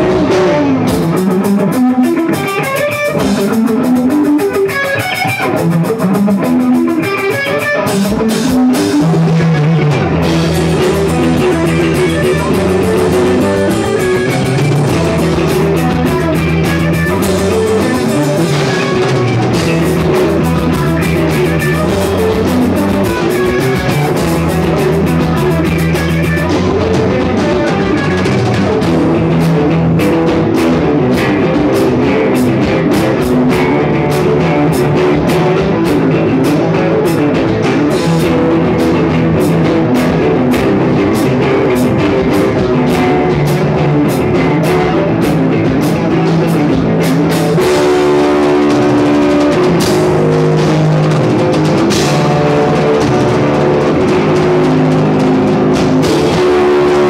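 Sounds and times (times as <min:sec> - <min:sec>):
drum kit: 0:00.0 - 0:57.0
repeating bass line: 0:00.0 - 0:57.0
rock guitar: 0:00.0 - 0:57.0.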